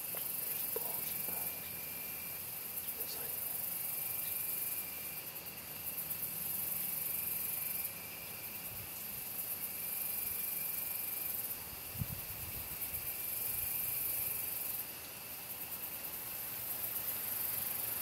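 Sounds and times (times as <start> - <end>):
crickets buzzing: 0.0 - 18.0.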